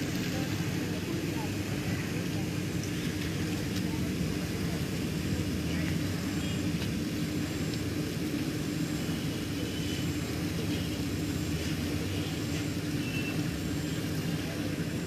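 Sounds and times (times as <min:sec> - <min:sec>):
machine droning hum: 0:00.0 - 0:15.0.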